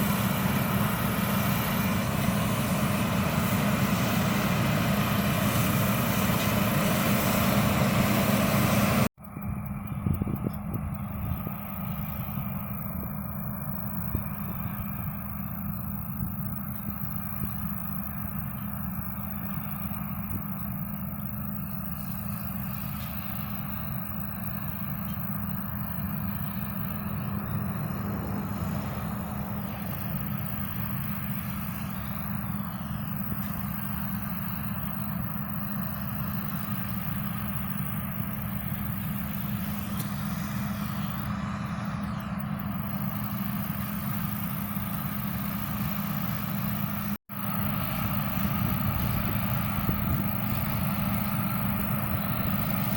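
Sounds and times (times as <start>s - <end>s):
combine harvester engine drone: 0.0s - 52.9s.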